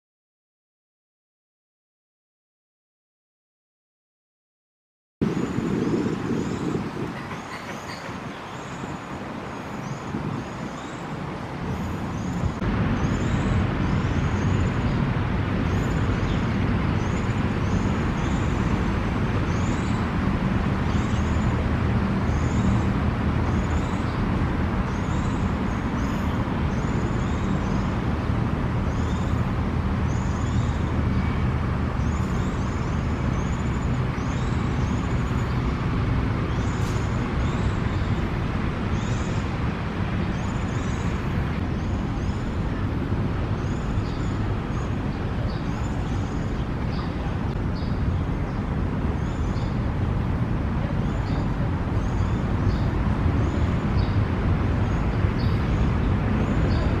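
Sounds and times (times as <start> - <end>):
road traffic rumble: 5.2 - 57.0.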